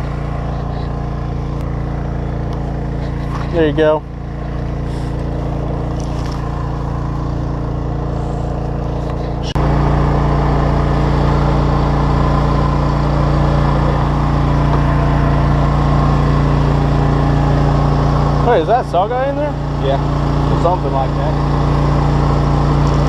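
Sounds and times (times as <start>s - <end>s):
boat engine drone: 0.0s - 23.0s.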